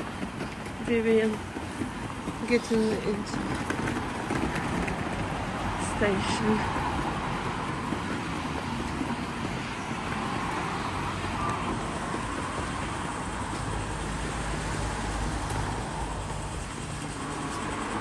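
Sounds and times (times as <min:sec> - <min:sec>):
street traffic: 0:00.0 - 0:18.0
suitcase wheels rolling on paving: 0:00.0 - 0:18.0.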